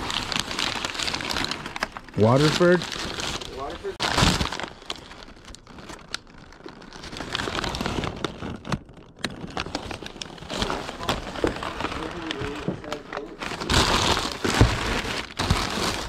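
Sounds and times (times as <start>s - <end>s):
paper wrapping crinkling: 0.0s - 16.0s.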